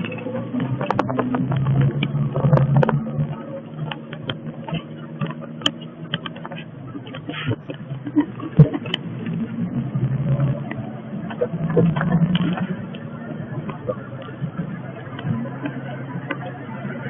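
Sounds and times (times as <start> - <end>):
car engine humming: 0.0 - 17.0
road noise: 0.0 - 17.0.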